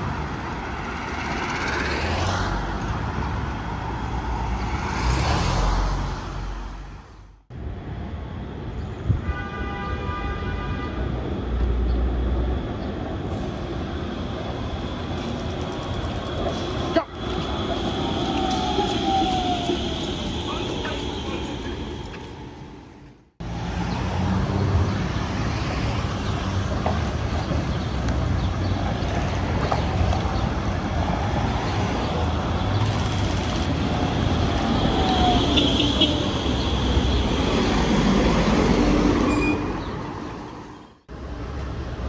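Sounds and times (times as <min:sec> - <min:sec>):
passing street traffic: 0:00.0 - 0:42.0
streetcar rumbling: 0:00.0 - 0:42.0.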